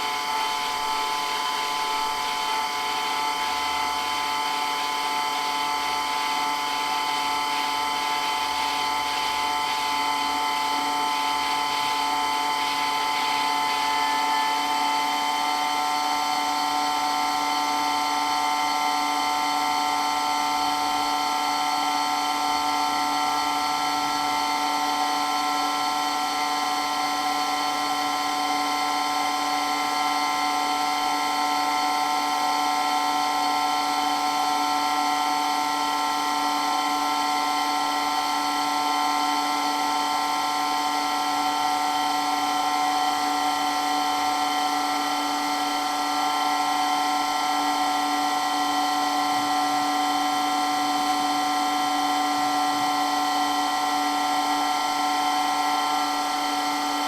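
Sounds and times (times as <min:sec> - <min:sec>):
electric water pump whining: 0:00.0 - 0:57.0.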